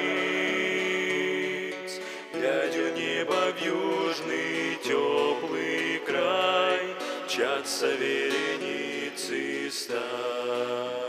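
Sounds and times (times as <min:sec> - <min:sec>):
acoustic guitar: 0:00.0 - 0:11.0
man singing a gospel song: 0:00.0 - 0:11.0.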